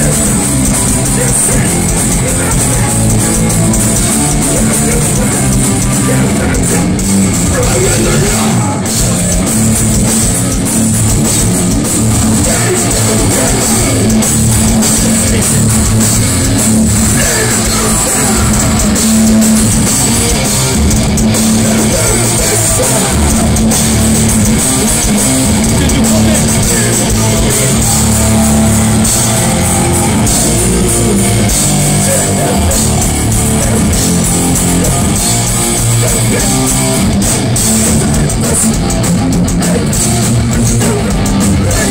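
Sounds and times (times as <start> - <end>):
person singing: 0.0 - 9.6, 12.1 - 20.8, 21.4 - 41.9
distorted electric guitars: 0.0 - 41.9
drum kit: 0.0 - 41.9.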